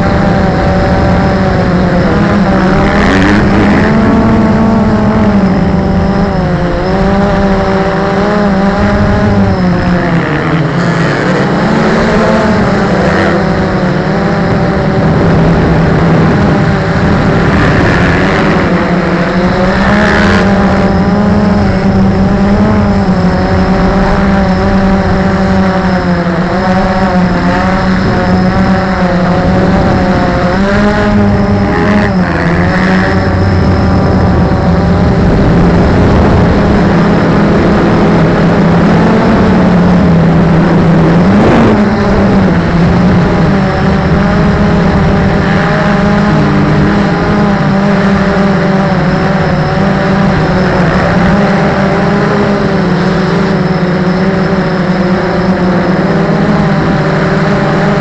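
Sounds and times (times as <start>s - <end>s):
aircraft propeller motor hum: 0.0s - 58.0s.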